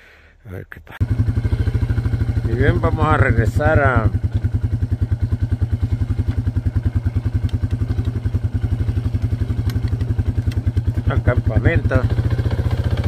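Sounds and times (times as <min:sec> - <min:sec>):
engine idling: 0:01.0 - 0:13.0.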